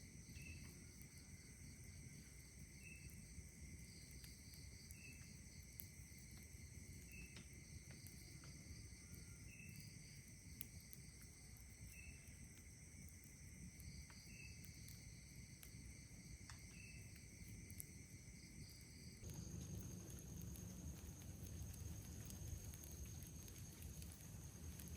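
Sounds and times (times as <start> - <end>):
campfire crackles: 0.0 - 24.9
crickets and insects trilling: 0.0 - 24.9.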